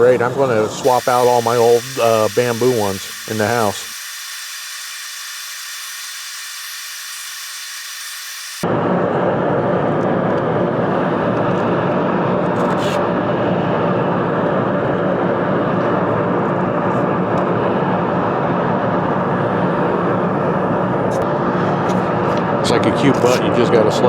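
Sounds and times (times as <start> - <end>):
woodshop machinery drone: 0.0 - 24.0.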